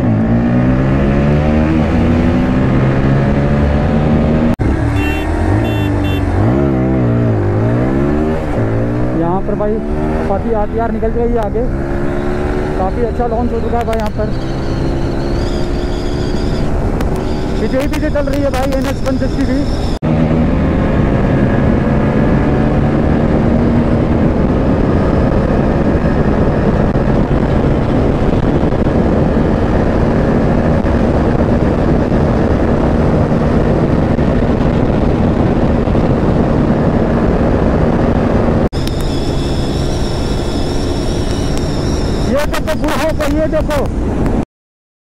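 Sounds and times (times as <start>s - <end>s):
motorcycle engine at full throttle: 0.0s - 44.4s
wind rush: 6.2s - 44.4s.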